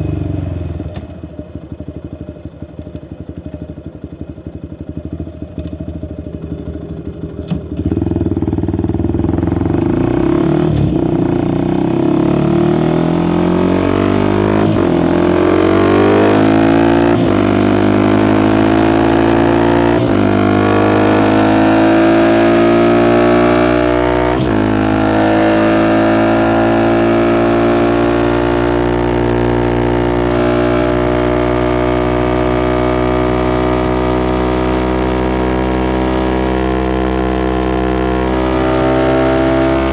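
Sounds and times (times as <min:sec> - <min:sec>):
motorcycle engine revving through gears: 0:00.0 - 0:03.7, 0:05.0 - 0:39.9.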